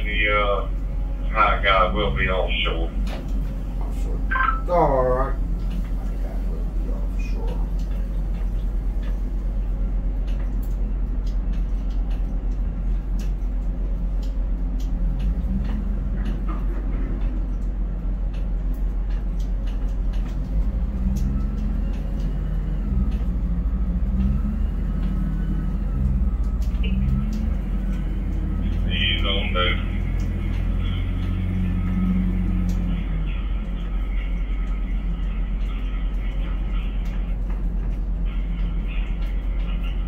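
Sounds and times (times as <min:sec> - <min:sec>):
crane machinery drone: 0:00.0 - 0:40.0.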